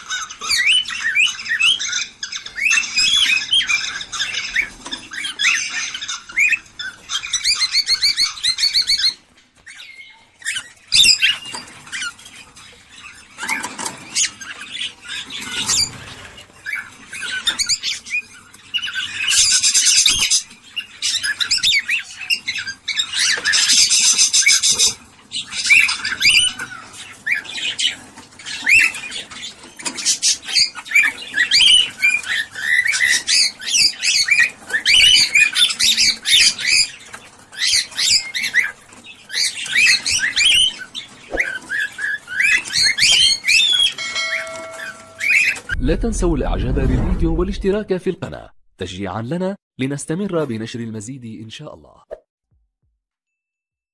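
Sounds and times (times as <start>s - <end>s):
cockatiels chirping and squawking: 0.0s - 45.7s.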